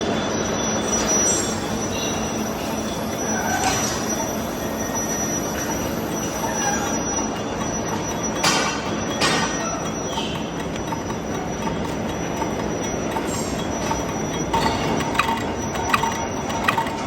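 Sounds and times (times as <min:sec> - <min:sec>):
high-pitched whine: 0:00.0 - 0:17.0
machine tool cutting metal: 0:00.9 - 0:17.0.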